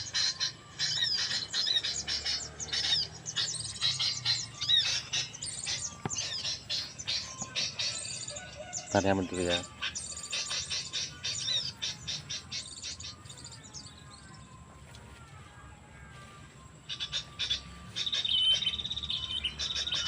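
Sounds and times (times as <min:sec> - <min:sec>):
high whistled bird notes: 0:00.0 - 0:14.0, 0:16.9 - 0:20.0
small birds chirping: 0:00.0 - 0:15.4, 0:16.2 - 0:20.0.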